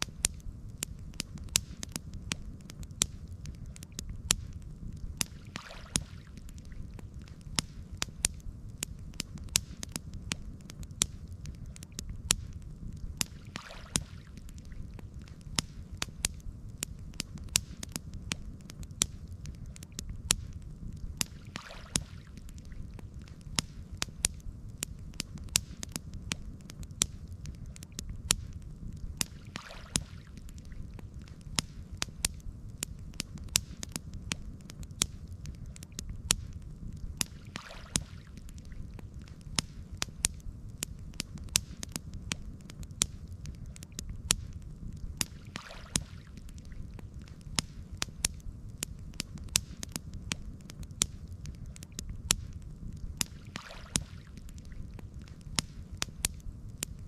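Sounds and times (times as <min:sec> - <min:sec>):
campfire crackling and popping: 0:00.0 - 0:57.0
steady low rumble: 0:00.0 - 0:57.0.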